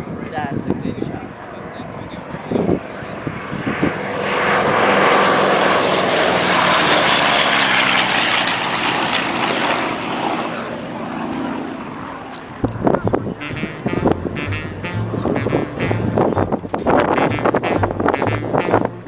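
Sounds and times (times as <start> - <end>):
propeller plane engine passing: 0.0 - 19.0
smaller propeller plane flying: 0.0 - 19.0.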